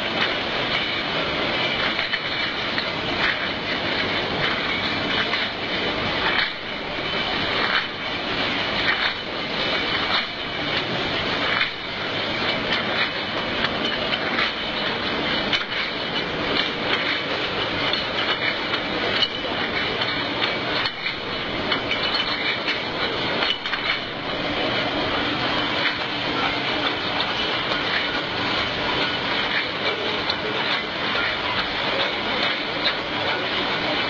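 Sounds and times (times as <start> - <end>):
conveyor machinery din: 0.0 - 34.0.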